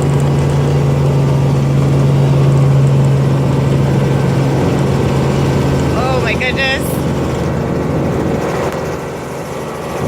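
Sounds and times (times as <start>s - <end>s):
helicopter drone: 0.0s - 10.0s.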